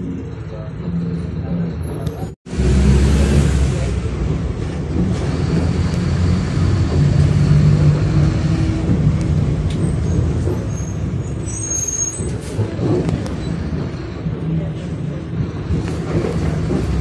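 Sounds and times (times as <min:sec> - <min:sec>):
bus engine droning: 0:00.0 - 0:17.0
road rumble: 0:00.0 - 0:17.0.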